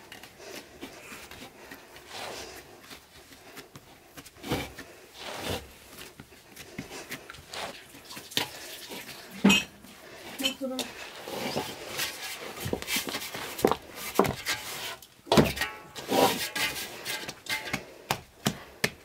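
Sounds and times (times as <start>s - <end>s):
hands kneading wet dough: 0.0s - 15.2s, 16.0s - 19.0s.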